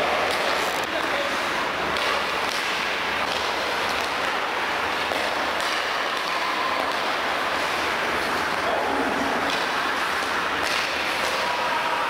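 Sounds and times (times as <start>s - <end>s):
rushing ice rink background noise: 0.0s - 12.0s.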